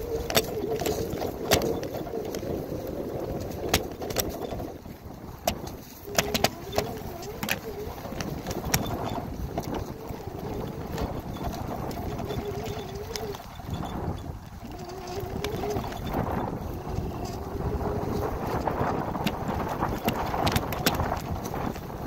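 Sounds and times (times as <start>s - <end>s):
bicycle tyre rumble on grass: 0.0s - 22.0s
bike clicks and rattles: 0.0s - 22.0s
wavering hum: 0.0s - 22.0s
wind on microphone: 0.0s - 22.0s.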